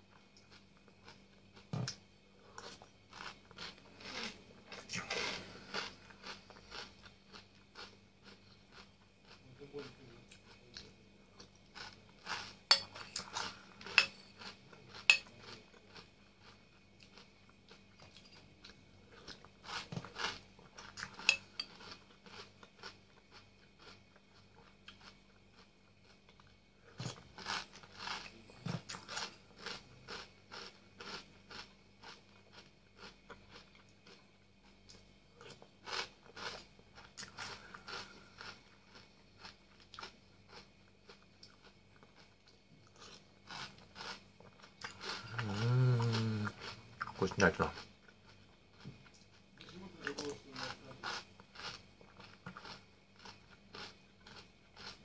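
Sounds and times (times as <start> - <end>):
crunching and chewing cereal: 0.0 - 55.0.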